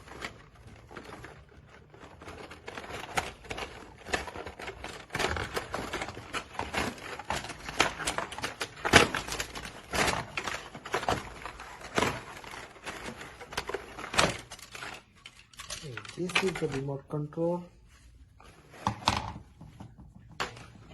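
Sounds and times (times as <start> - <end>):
plastic and cardboard packaging handled: 0.0 - 20.9.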